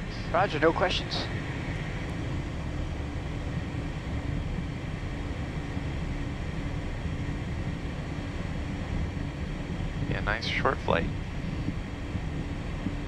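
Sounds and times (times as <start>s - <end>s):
faint pulsing hum: 0.0s - 13.0s
jet engines idling rumble: 0.0s - 13.0s.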